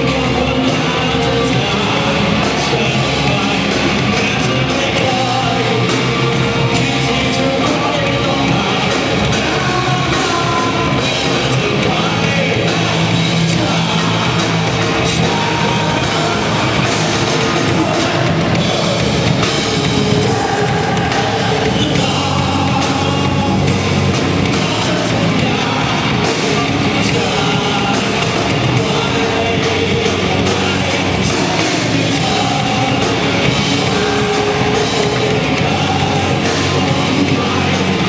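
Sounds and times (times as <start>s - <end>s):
heavy rock band playing: 0.0s - 38.0s
person singing: 0.0s - 38.0s.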